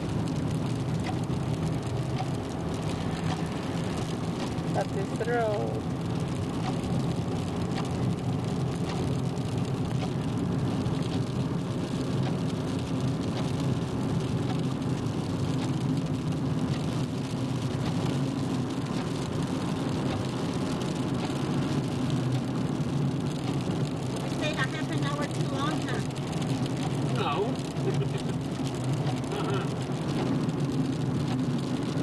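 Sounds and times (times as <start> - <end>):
engine and tyre noise on wet road: 0.0 - 32.0
faint light ticks: 0.1 - 32.0.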